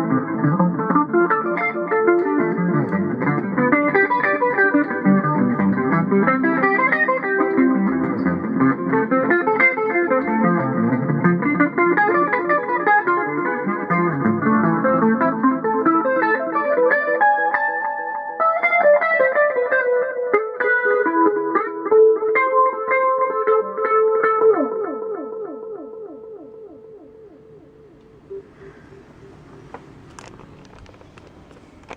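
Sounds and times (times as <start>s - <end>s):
clean electric guitar: 0.0s - 31.9s.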